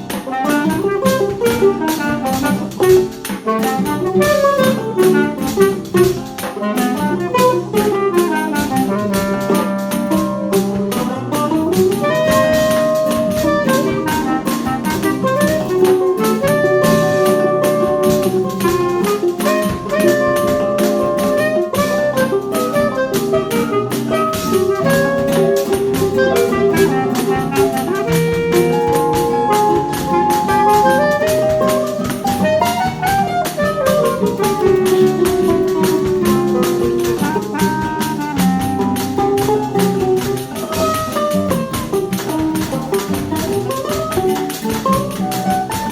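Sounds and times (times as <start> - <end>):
clarinet melody: 0.0 - 45.9
drum kit: 0.0 - 45.9
mandolin: 0.0 - 45.9
nylon-string guitars: 0.0 - 45.9
pandeiro: 0.0 - 45.9
tuba: 0.0 - 45.9.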